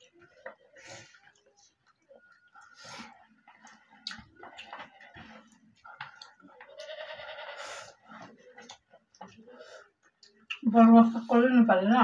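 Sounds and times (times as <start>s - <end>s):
mouths chewing and smacking: 0.0s - 10.7s.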